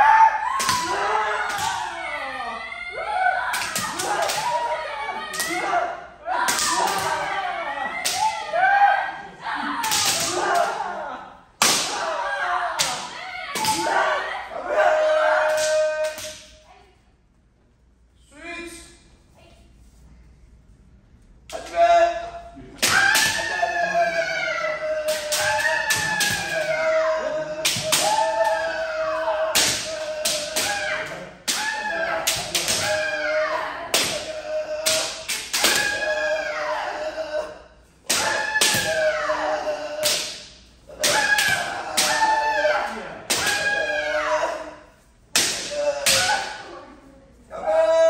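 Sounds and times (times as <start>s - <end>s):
fencers shouting: 0.0s - 16.6s, 21.5s - 48.0s.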